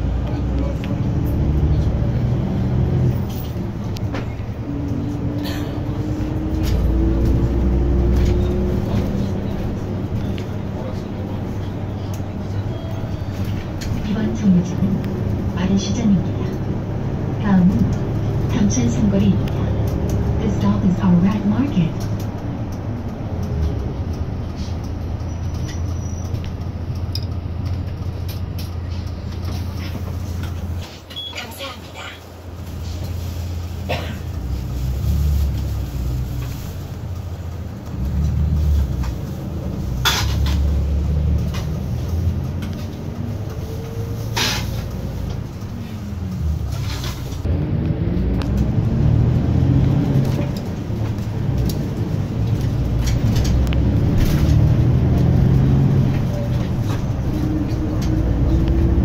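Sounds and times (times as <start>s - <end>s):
bus engine rumble: 0.0s - 59.0s
road noise: 0.0s - 59.0s.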